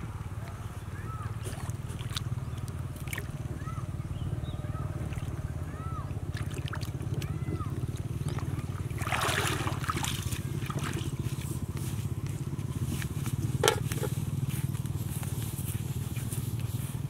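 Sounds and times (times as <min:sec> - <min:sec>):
small engine chugging: 0:00.0 - 0:17.0
feet splashing in shallow water: 0:00.5 - 0:17.0.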